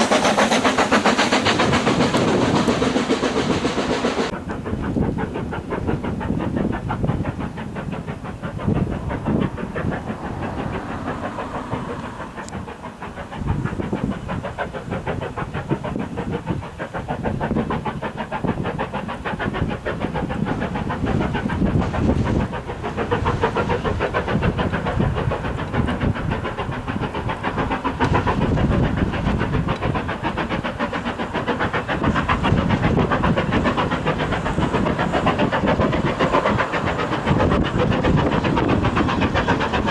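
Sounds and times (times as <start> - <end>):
steam locomotive exhaust beating: 0.0 - 39.9.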